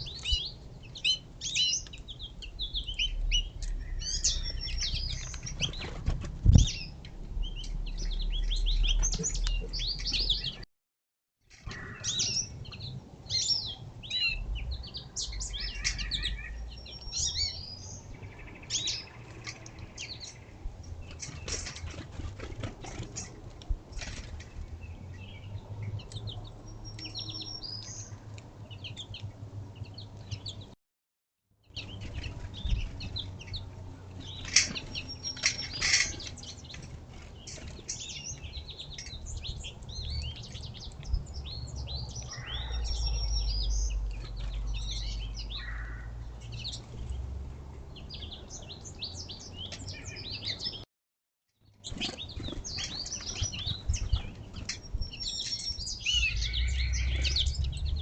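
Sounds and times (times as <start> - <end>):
songbirds chirping: 0.0 - 10.7, 11.5 - 30.8, 31.6 - 50.9, 51.6 - 58.0.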